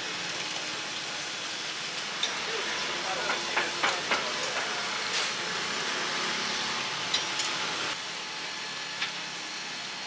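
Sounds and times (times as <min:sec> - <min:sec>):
steady kitchen hiss: 0:00.0 - 0:10.0.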